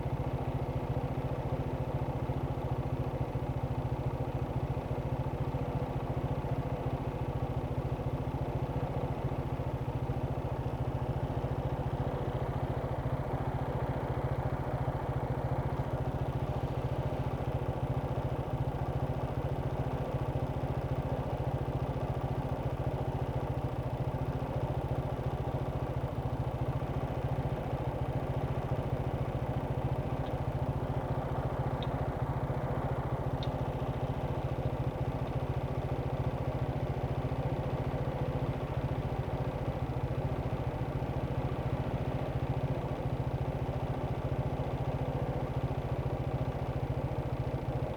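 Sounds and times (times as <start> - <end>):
engine idling: 0.0 - 47.9.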